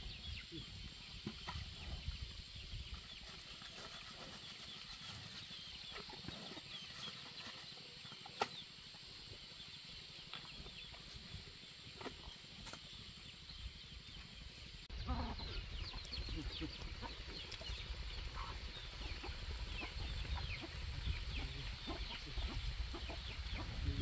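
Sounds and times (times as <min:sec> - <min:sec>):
faint bird chirping: 0:00.0 - 0:24.0.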